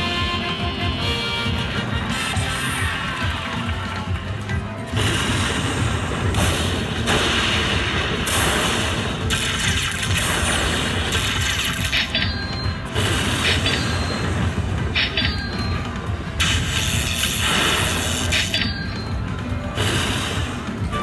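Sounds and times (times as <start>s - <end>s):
slot machine sound effects: 0.0s - 21.0s.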